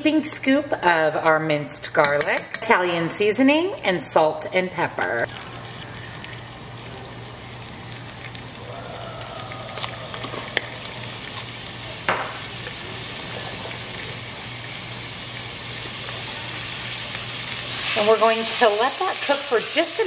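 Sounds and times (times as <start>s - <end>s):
tomatoes and garlic sizzling: 3.1s - 20.0s.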